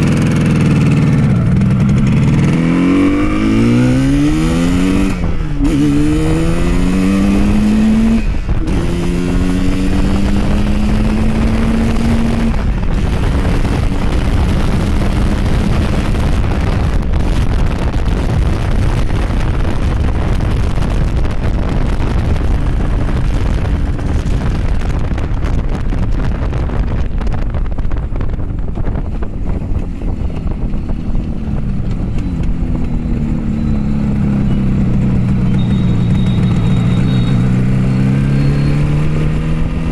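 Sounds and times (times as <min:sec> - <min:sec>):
motorcycle engine revving through gears: 0:00.0 - 0:39.9
wind noise on microphone: 0:00.0 - 0:39.9.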